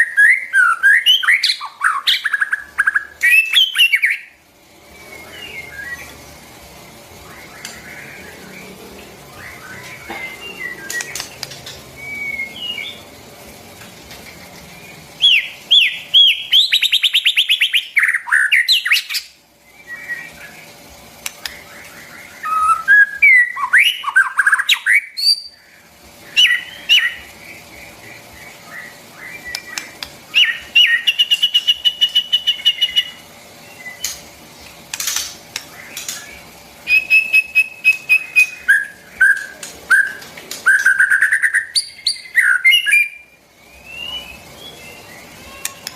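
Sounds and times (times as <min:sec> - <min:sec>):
bird singing whistled phrases: 0:00.0 - 0:06.2, 0:09.3 - 0:11.2, 0:12.0 - 0:13.0, 0:15.2 - 0:20.6, 0:21.6 - 0:34.2, 0:35.8 - 0:45.9.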